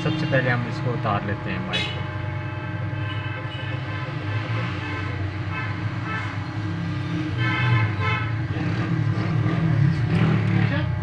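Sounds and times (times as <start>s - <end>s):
steady multi-tone hum: 0.0s - 9.9s.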